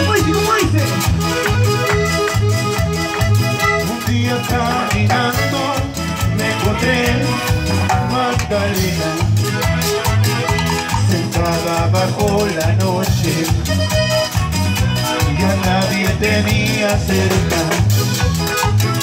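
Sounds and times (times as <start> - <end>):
live cumbia band playing: 0.0 - 19.0.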